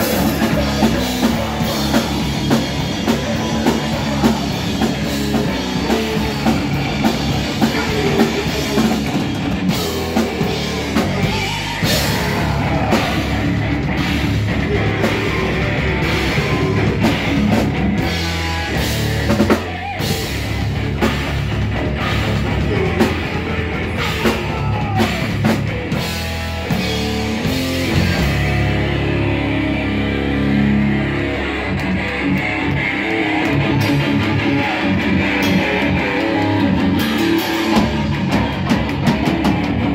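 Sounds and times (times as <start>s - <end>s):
electric guitars: 0.0s - 39.9s.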